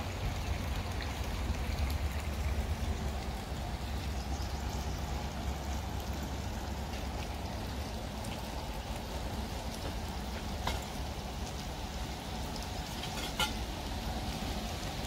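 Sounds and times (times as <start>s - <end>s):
creek trickling and rushing: 0.0s - 15.0s.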